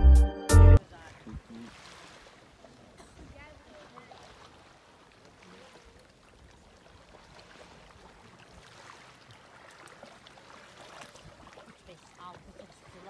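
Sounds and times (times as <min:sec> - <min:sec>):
sea water lapping on pebbles: 0:00.8 - 0:13.0
water trickles: 0:00.8 - 0:13.0.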